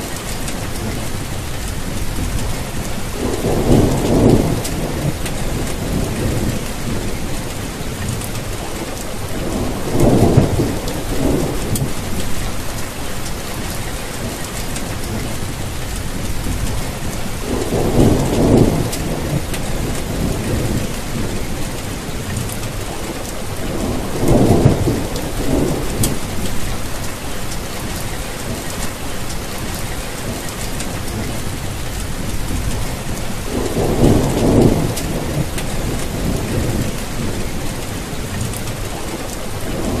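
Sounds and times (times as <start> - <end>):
steady rain: 0.0 - 40.0
thunder rumbling: 0.2 - 29.0, 29.7 - 40.0.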